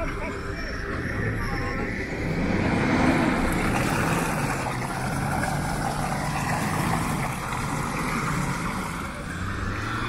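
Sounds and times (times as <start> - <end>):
truck engine running hard: 0.0 - 10.0.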